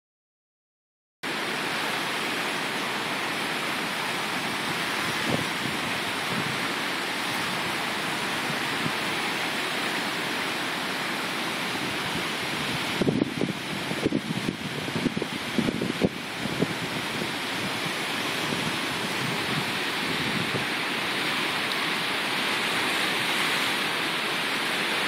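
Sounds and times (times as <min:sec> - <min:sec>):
river rushing: 0:01.2 - 0:25.0.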